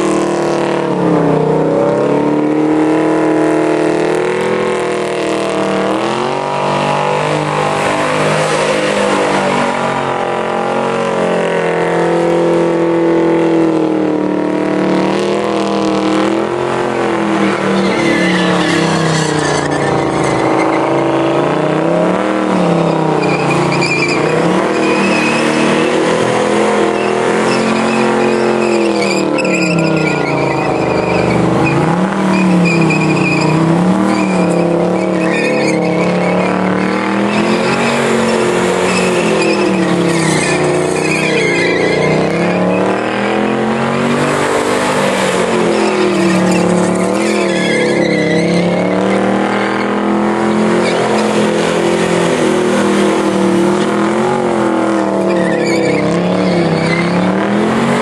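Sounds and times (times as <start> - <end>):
car engine revving high: 0.0 - 58.0
tyres spinning and squealing: 0.0 - 58.0.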